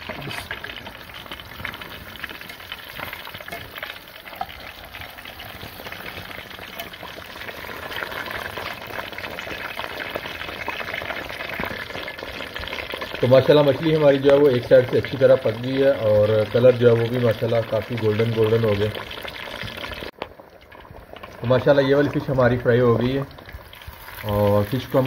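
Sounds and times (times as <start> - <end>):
fish deep-frying in oil: 0.0 - 25.0.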